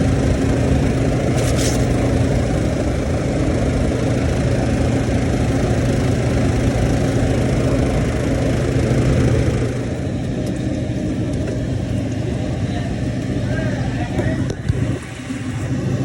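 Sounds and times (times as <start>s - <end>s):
refrigerated unit humming: 0.0s - 16.0s.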